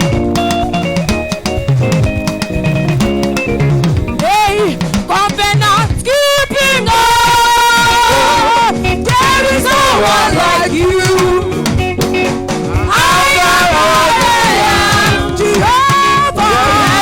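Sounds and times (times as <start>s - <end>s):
band accompaniment: 0.0s - 16.4s.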